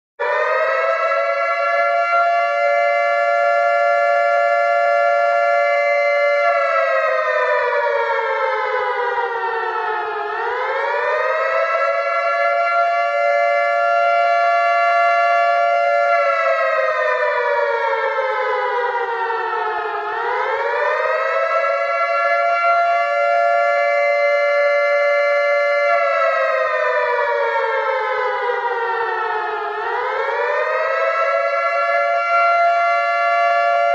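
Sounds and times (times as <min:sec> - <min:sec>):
air-raid warning siren: 0:00.2 - 0:33.9.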